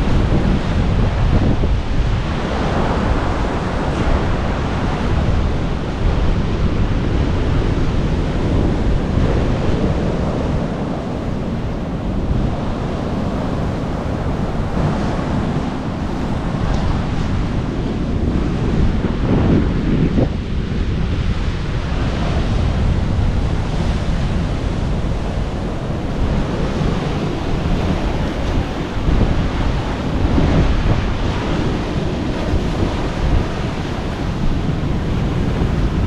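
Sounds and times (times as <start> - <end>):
sea surf washing in: 0.0 - 36.0
wind buffeting microphone: 0.0 - 36.0.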